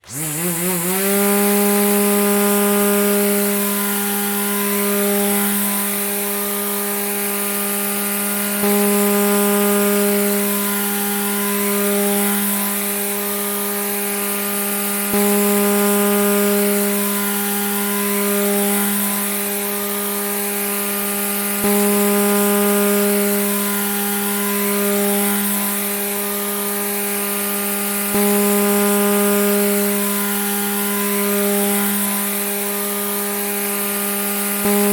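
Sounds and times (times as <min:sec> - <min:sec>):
grass trimmer motor buzzing: 0:00.0 - 0:34.9.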